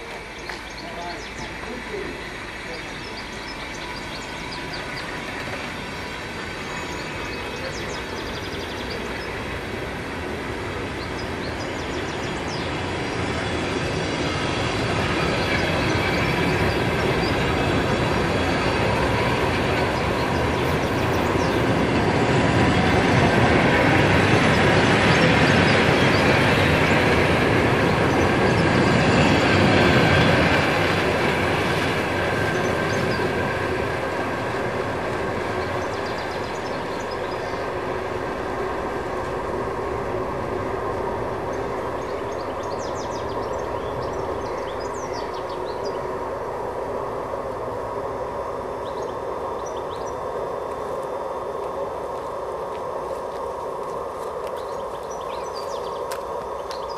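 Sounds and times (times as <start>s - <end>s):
train coaches clattering past: 0.0s - 47.7s, 48.3s - 56.9s.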